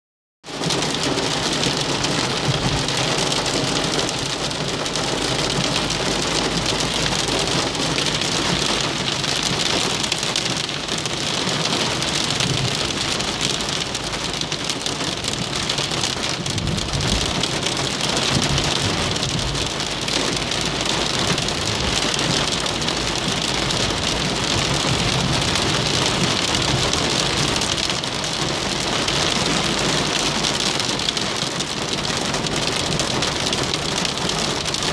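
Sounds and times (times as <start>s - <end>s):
heavy rain on car roof: 0.4s - 34.9s.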